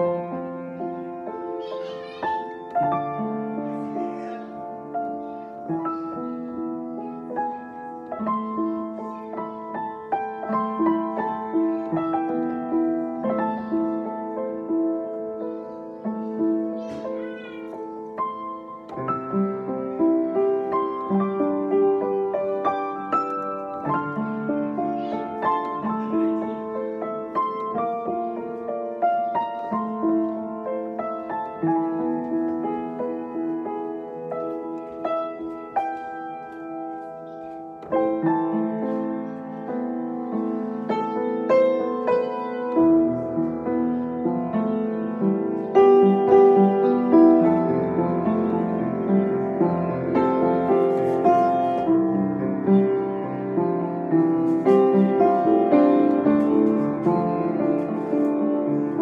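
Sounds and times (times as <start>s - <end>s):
upright piano playing: 0.0s - 59.0s.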